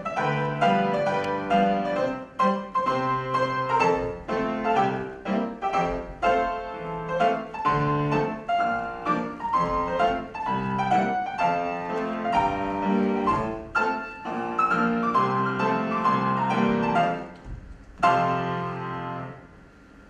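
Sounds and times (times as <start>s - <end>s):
solo piano dance piece: 0.0s - 20.0s.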